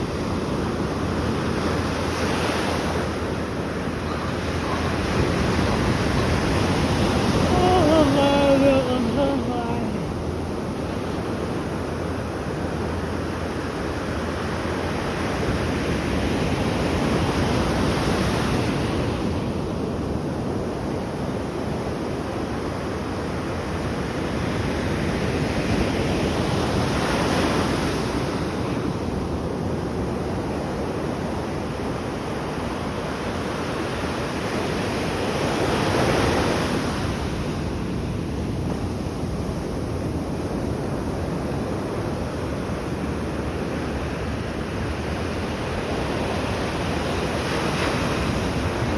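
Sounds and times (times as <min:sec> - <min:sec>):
ocean waves washing: 0:00.0 - 0:20.9, 0:23.0 - 0:48.9
large waves breaking: 0:00.0 - 0:48.9.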